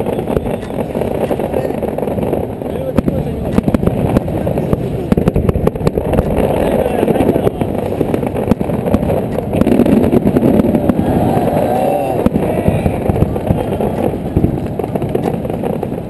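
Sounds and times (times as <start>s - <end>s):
crowd voices: 0.0s - 15.6s
fireworks bangs and crackles: 0.0s - 16.0s.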